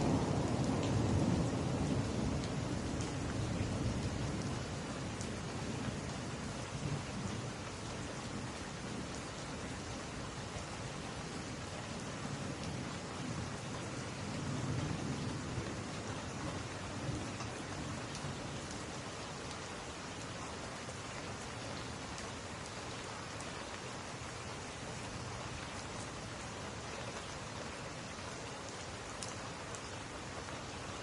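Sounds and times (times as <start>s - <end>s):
rain on window glass: 0.0s - 31.0s.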